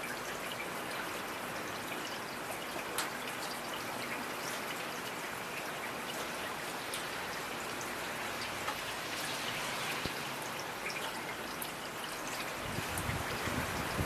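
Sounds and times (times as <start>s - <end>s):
steady rain with dripping drops: 0.0s - 14.0s.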